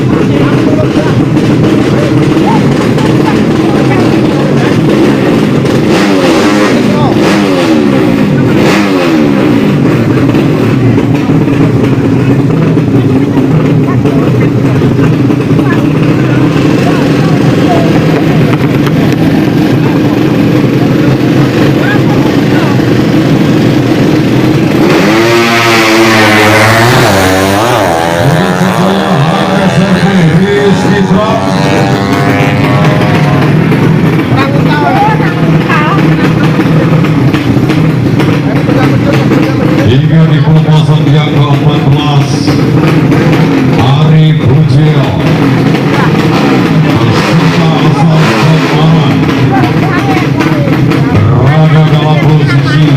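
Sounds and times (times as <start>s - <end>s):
motorcycle engines accelerating hard: 0.0s - 52.9s.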